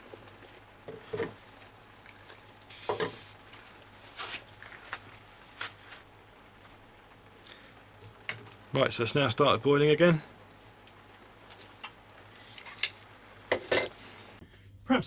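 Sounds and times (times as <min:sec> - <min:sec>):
water bubbling and sizzling: 0:00.0 - 0:14.4.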